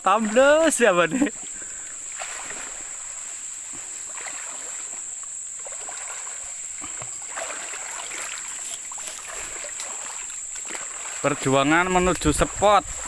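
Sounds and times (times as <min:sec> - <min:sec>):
high-pitched insect drone: 0:00.0 - 0:13.0
water sloshing and splashing: 0:00.0 - 0:13.0.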